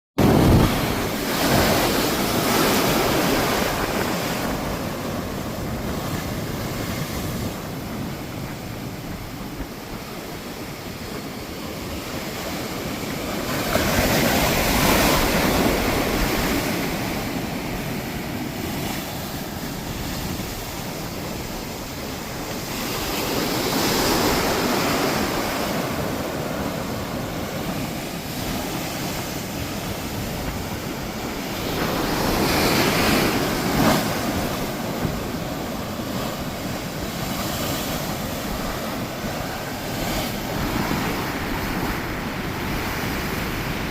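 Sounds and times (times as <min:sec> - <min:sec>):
ocean waves crashing: 0:00.2 - 0:43.9
rush of surf: 0:00.2 - 0:43.9.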